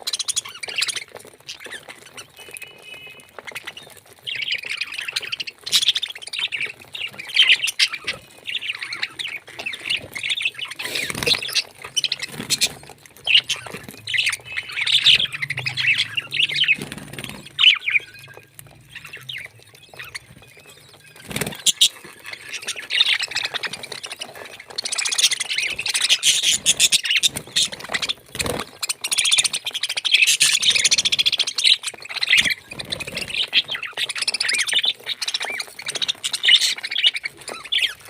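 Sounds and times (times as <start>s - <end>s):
parrot chattering and squawking: 3.5s - 38.0s.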